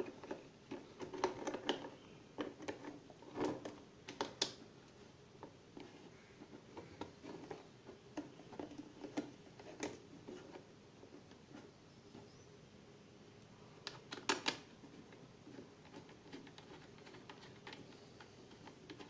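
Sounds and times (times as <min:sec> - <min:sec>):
plastic parts clicking and knocking: 0:00.0 - 0:04.6, 0:05.4 - 0:12.3, 0:13.8 - 0:19.0.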